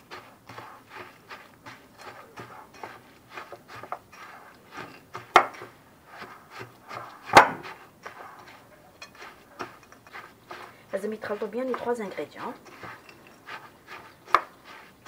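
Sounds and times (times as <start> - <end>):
spatula scraping glass bowl: 0.0 - 15.0.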